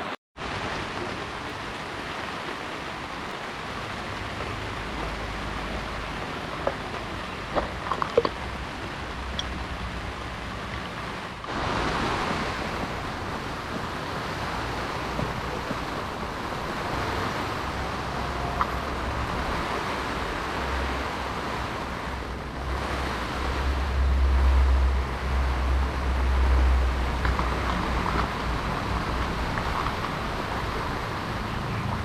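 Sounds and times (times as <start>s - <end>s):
heavy rain falling: 0.0s - 32.0s
wind buffeting microphone: 1.2s - 32.0s.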